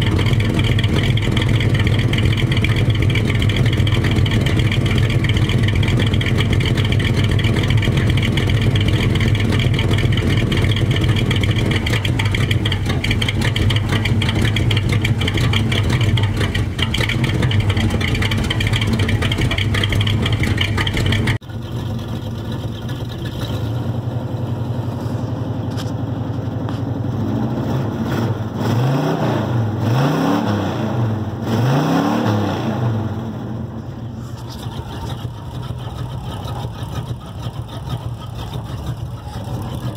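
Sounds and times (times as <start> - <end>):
pickup engine idling: 0.0 - 28.6, 33.0 - 39.9
engine revving: 0.0 - 39.9.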